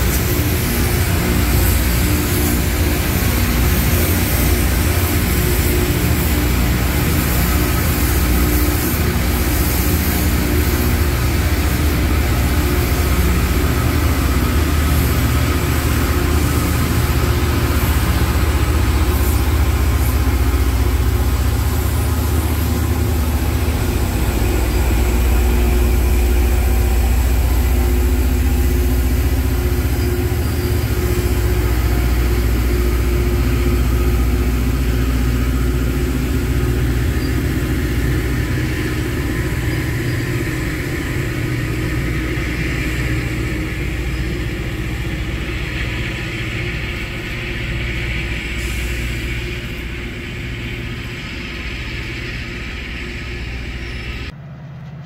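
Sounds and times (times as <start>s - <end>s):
diesel engine hum: 0.0s - 55.0s
train cars rolling on rails: 0.0s - 55.0s.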